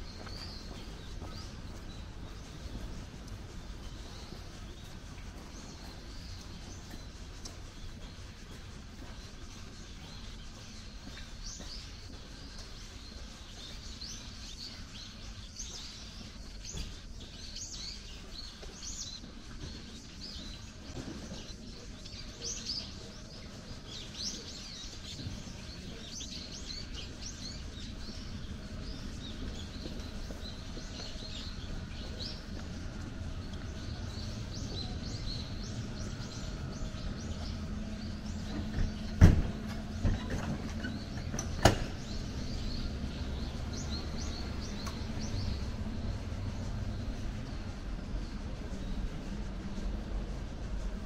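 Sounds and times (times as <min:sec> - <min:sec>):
low background rumble: 0:00.0 - 0:51.0
small birds chirping: 0:00.0 - 0:51.0.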